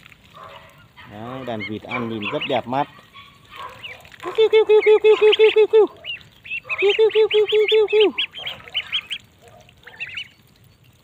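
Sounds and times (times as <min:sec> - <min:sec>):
ducklings peeping: 0:00.3 - 0:11.0
ducks quacking: 0:00.4 - 0:10.3.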